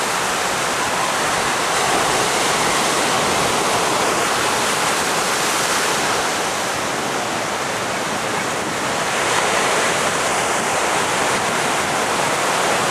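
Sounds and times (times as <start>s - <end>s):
ocean surf breaking: 0.0s - 12.9s.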